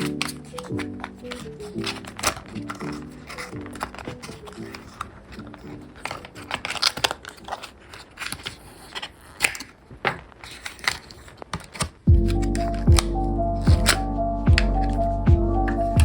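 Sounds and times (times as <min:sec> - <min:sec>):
faint music: 0:00.0 - 0:09.8, 0:11.7 - 0:16.0
paper packaging rustling: 0:00.0 - 0:14.0.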